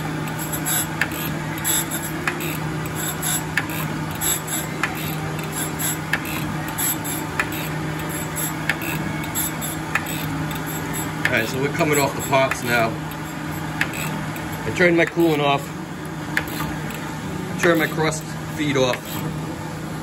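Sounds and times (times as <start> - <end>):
grinder spindle hum: 0.0 - 20.0
grinding wheel and coolant hiss: 0.0 - 20.0.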